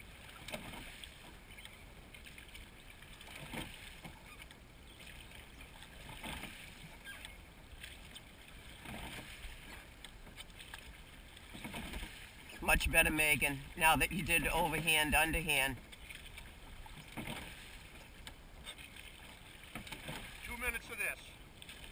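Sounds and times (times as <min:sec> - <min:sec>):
oars swishing and splashing: 0:00.0 - 0:21.9
water and wind hiss: 0:00.0 - 0:21.9.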